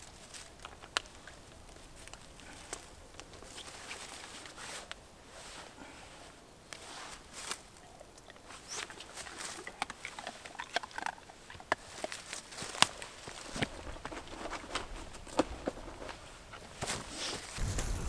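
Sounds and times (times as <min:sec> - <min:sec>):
rustling in dry leaves: 0:00.0 - 0:10.6, 0:11.3 - 0:18.0.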